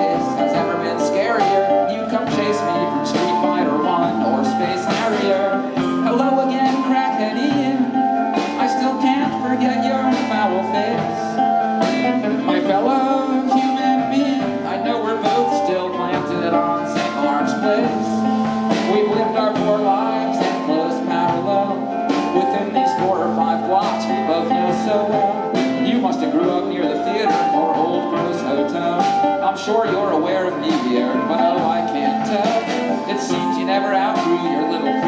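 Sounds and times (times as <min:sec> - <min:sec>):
drum hits: 0:00.0 - 0:35.0
live rock band playing: 0:00.0 - 0:35.0
strummed guitar: 0:00.0 - 0:35.0.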